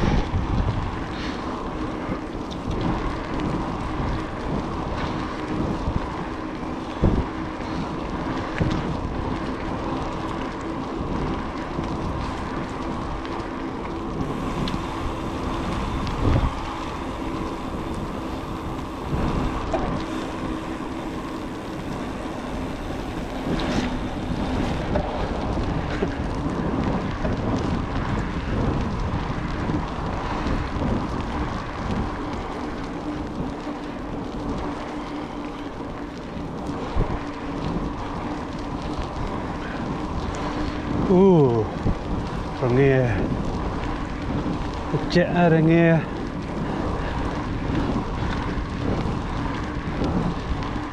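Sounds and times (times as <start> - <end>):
vehicle engine droning: 0.0 - 50.9
wind on microphone: 0.0 - 50.9.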